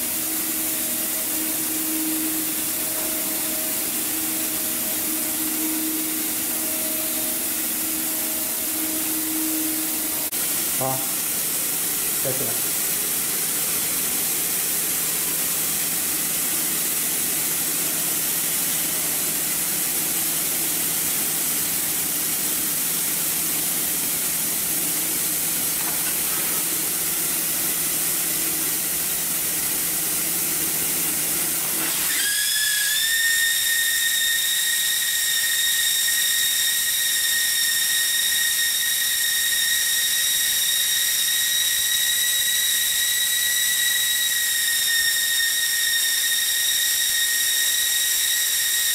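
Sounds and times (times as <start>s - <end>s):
hot air blower hissing: 0.0s - 48.9s
steady high whistle: 0.0s - 48.9s.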